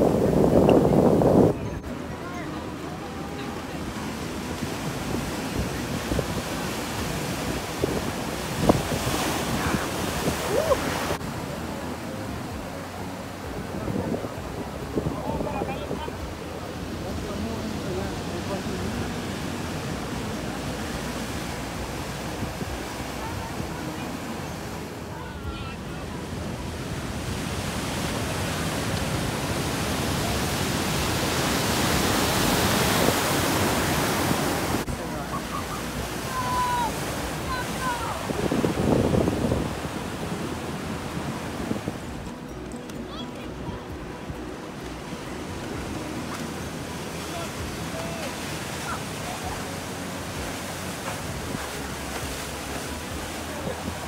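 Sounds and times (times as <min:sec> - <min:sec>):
ocean waves breaking: 0:00.0 - 0:54.0
wind buffeting microphone: 0:00.0 - 0:54.0.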